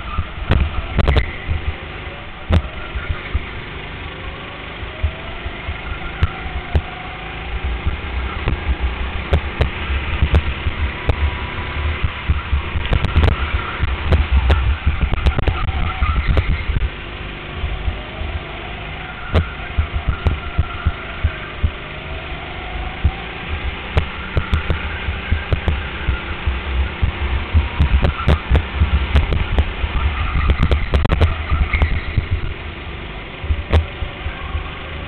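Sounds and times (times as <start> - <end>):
go-kart engine rumbling: 0.0 - 35.0.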